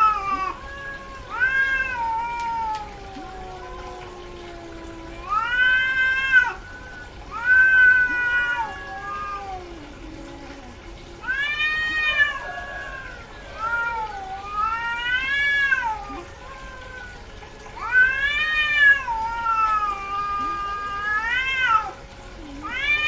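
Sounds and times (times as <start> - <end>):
cat yowling: 0.0 - 23.0.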